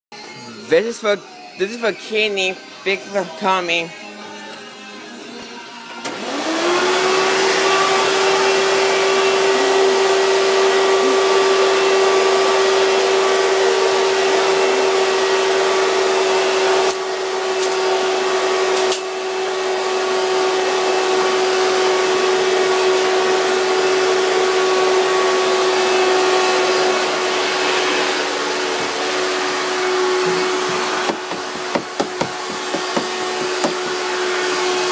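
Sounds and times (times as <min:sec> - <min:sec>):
vacuum cleaner running: 0:05.9 - 0:34.9.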